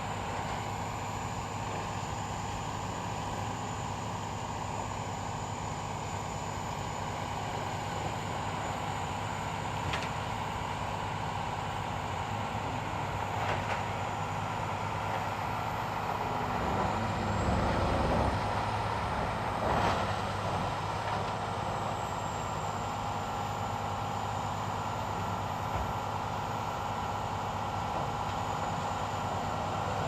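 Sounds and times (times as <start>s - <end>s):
machine tool humming and whining: 0.0s - 30.0s.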